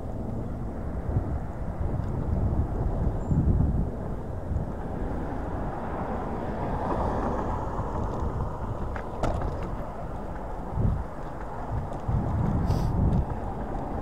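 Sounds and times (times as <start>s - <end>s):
electric scooter rumbling: 0.0s - 14.0s
wind buffeting microphone: 0.0s - 14.0s.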